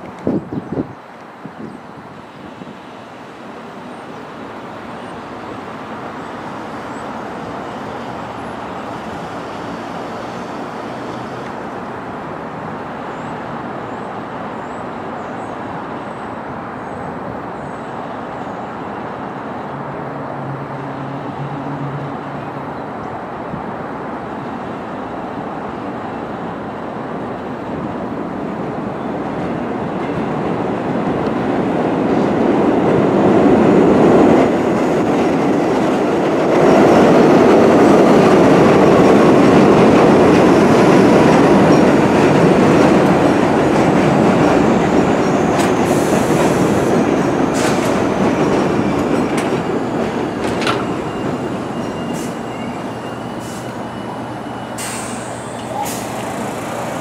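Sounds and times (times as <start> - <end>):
subway train rumbling on elevated track: 0.0 - 57.0.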